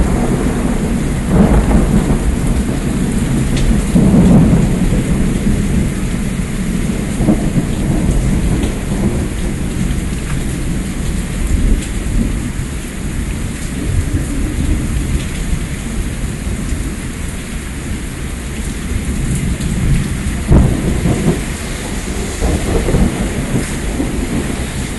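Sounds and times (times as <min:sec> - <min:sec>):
thunder rumbling: 0:00.0 - 0:17.2, 0:18.7 - 0:24.9
heavy rain falling: 0:00.0 - 0:24.9.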